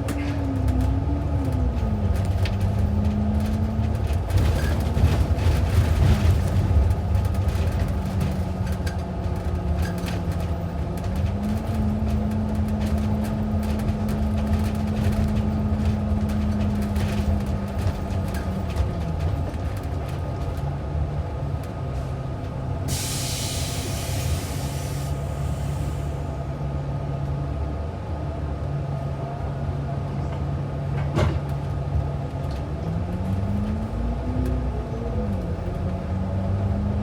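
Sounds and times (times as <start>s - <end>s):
bus engine rumble: 0.0s - 37.0s.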